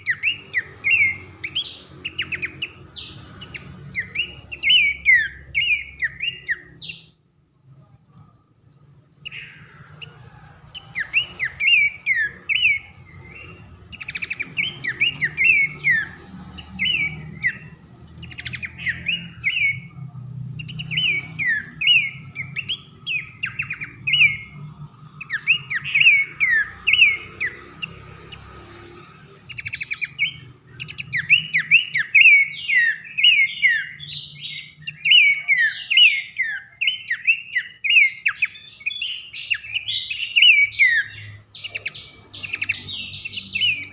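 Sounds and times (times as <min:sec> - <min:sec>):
bird singing loud whistles: 0:00.0 - 0:07.2, 0:10.8 - 0:20.0, 0:20.6 - 0:43.9.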